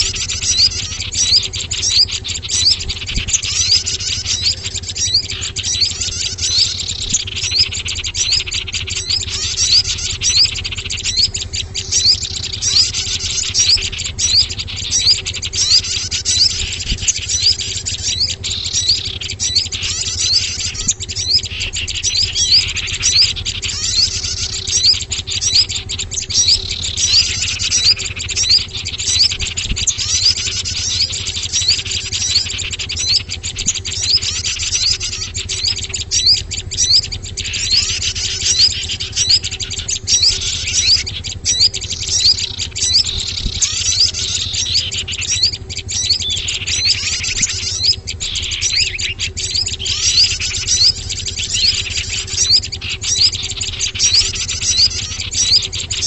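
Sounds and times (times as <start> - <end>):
songbirds chirping: 0.0 - 56.0
steady low hum: 0.0 - 56.0.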